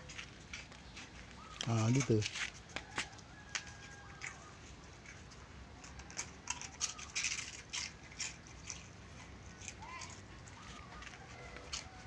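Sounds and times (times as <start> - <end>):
dogs crunching crackers: 0.0 - 12.0.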